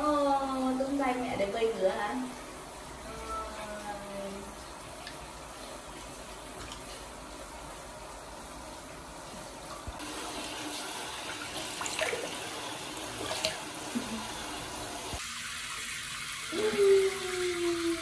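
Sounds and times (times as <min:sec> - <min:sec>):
shower water splashing into tub: 0:03.6 - 0:18.0.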